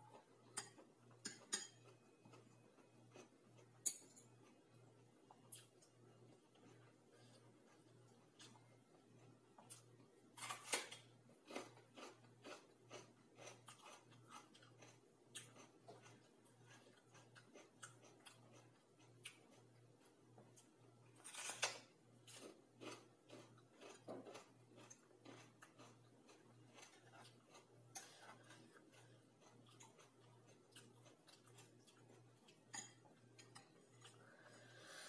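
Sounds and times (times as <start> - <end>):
person chewing crunchy pepper: 0.0 - 34.9
faint low hum: 0.0 - 35.0.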